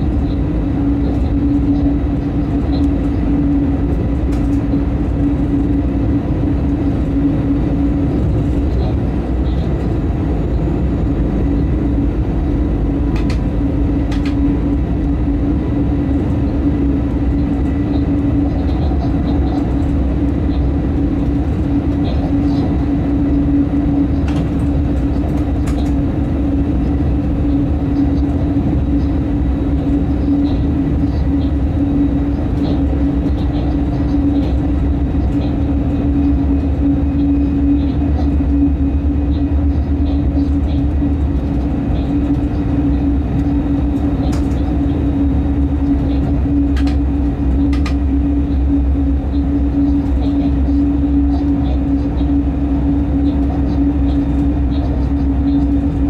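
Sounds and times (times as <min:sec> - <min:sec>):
locomotive cab rumble: 0:00.0 - 0:56.0
steady hum: 0:00.0 - 0:56.0.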